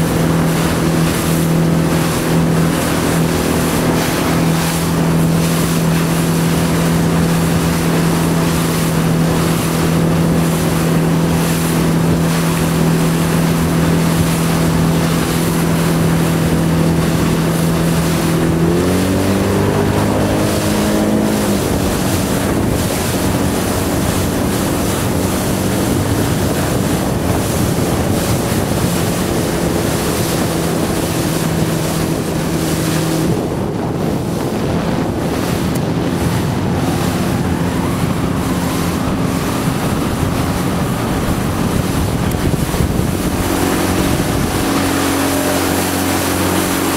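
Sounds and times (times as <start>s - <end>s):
motorboat engine running: 0.0s - 46.9s
water rushing past: 0.0s - 46.9s
wind buffeting microphone: 0.0s - 46.9s.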